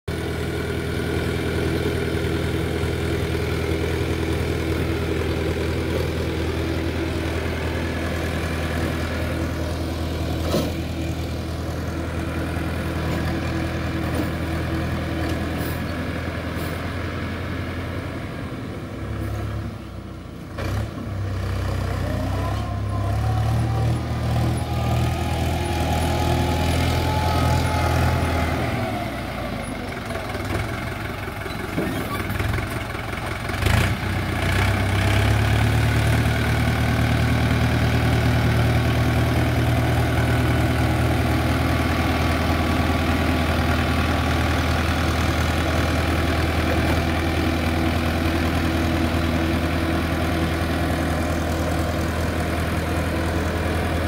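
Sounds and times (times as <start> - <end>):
tractor diesel engine running: 0.1 - 54.0.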